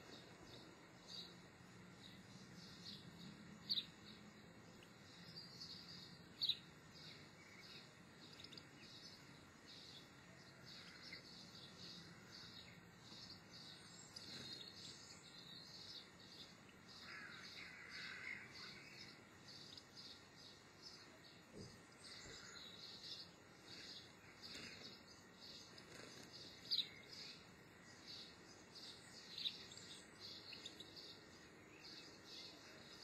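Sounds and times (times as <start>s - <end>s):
bird chirps and twittering: 2.0s - 33.0s.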